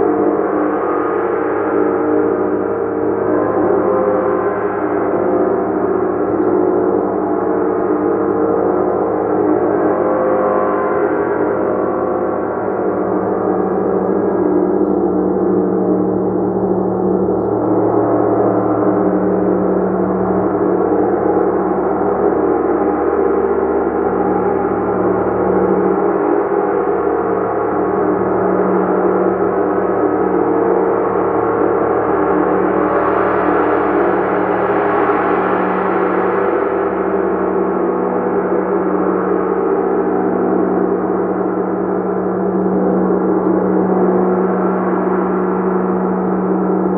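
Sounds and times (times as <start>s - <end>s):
large gong shimmering: 0.0s - 46.9s.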